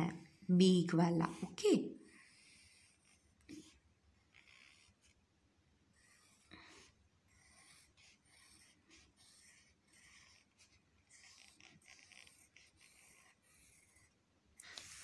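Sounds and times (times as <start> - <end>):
pencil scratching on paper: 0.0 - 5.2, 5.9 - 15.0.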